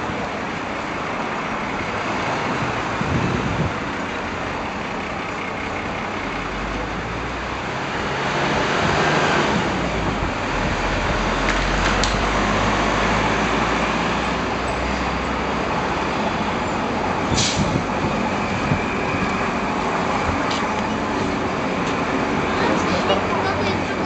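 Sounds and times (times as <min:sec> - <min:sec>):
low engine rumble: 0:00.0 - 0:24.0
passing cars and buses: 0:00.0 - 0:24.0.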